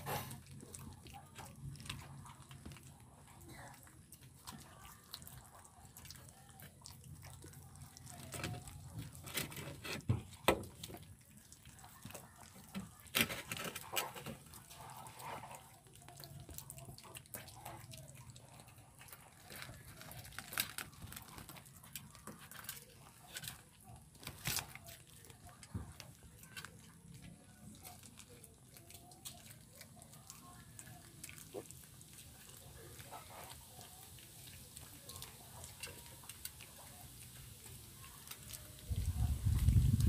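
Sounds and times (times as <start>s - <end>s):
puppies chewing and licking: 0.0s - 40.0s.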